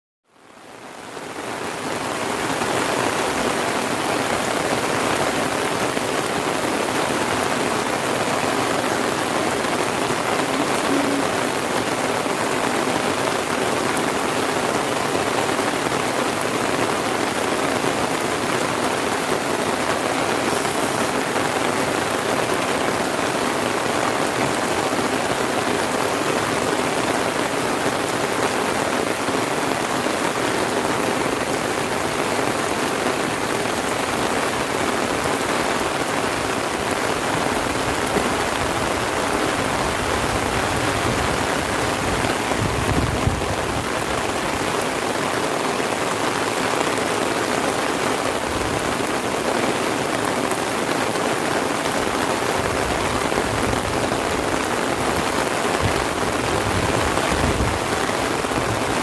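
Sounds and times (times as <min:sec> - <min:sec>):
heavy rain falling: 0:00.3 - 0:59.0.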